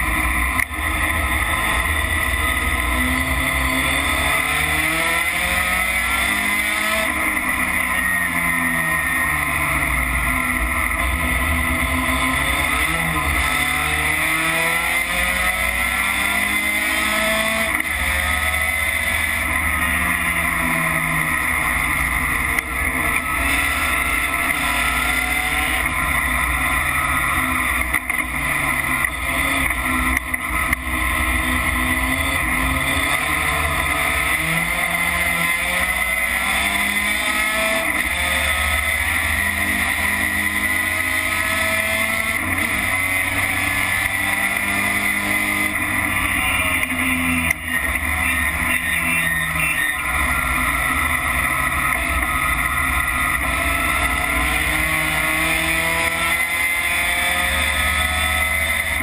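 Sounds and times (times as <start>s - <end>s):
truck engine revving: 9.1s - 59.0s.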